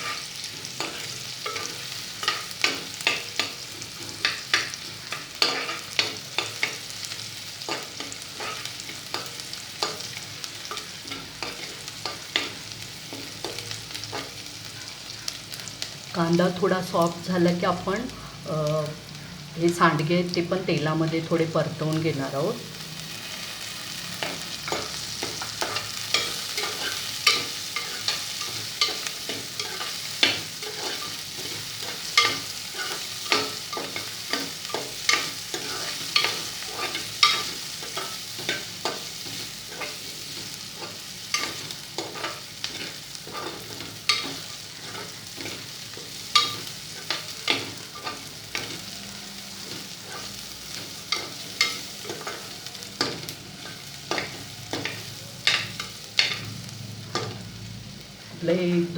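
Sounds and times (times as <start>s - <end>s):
onion sizzling in oil: 0.0s - 58.9s.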